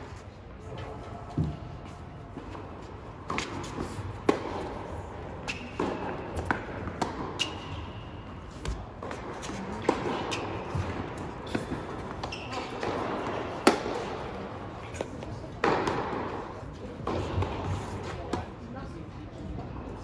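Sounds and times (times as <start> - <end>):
tennis balls bouncing on court: 1.3 - 18.5
tennis balls struck by rackets: 1.3 - 18.6.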